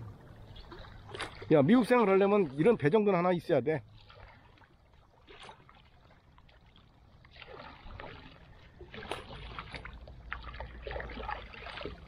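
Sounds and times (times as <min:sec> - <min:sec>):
paddle blades dipping into water: 0:00.0 - 0:12.0
water splashing and dripping: 0:00.0 - 0:12.0.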